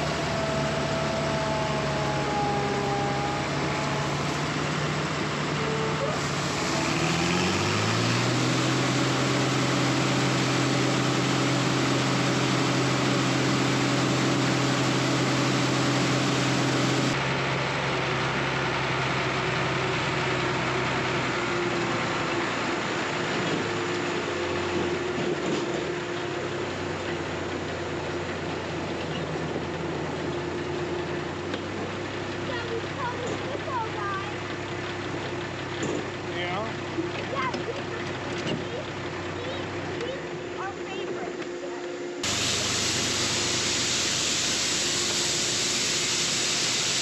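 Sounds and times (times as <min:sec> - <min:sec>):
heavy diesel engine running: 0:00.0 - 0:47.0
rough low engine running: 0:00.0 - 0:47.0.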